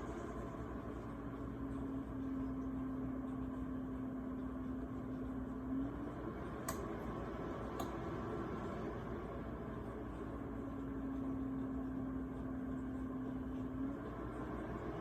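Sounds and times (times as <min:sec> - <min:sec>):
space heater fan blowing: 0:00.0 - 0:15.0.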